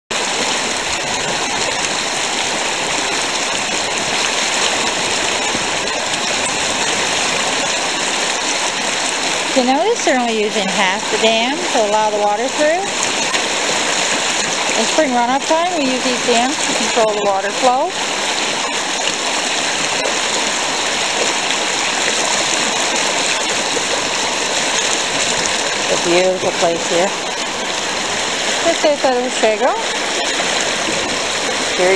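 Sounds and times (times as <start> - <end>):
river water rushing: 0.1 - 31.9.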